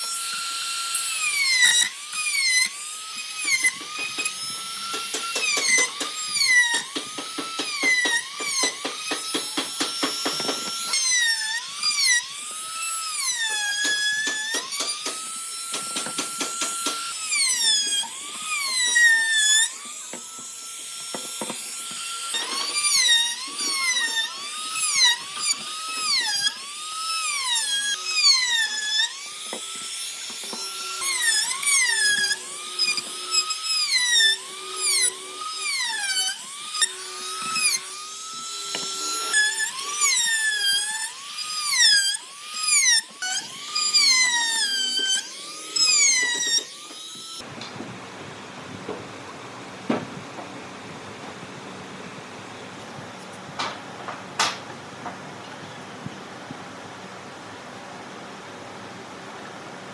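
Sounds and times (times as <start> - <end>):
power tool motor whine: 0.0 - 59.9.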